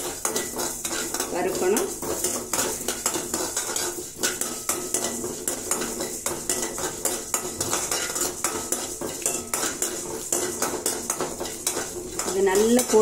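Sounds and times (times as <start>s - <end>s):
metal spoon scraping rice in pan: 0.0s - 13.0s.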